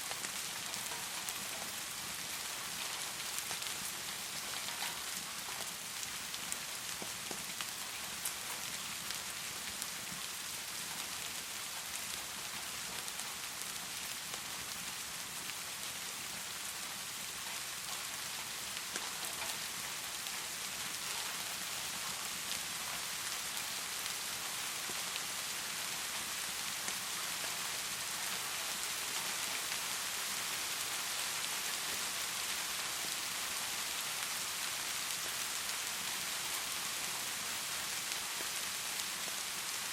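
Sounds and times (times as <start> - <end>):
heavy rain hiss: 0.0 - 39.9
rain drops ticking: 0.0 - 39.9.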